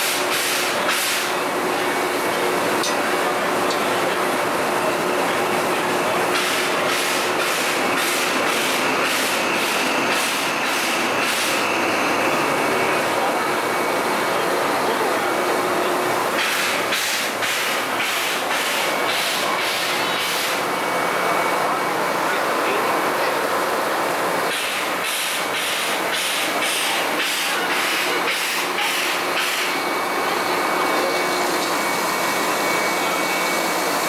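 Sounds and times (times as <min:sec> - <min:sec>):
steam hissing: 0:00.0 - 0:04.2, 0:05.4 - 0:34.0.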